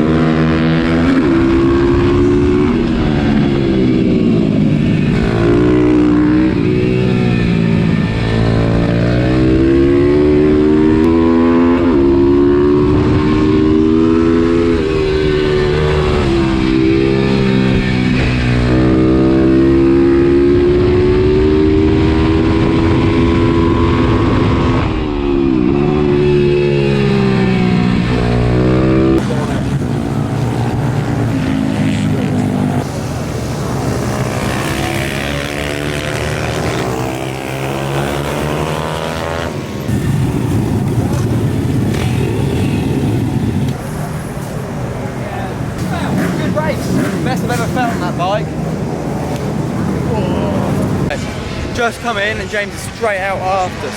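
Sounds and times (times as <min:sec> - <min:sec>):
motorbike engine revving hard: 0:00.0 - 0:44.2, 0:45.6 - 0:51.9.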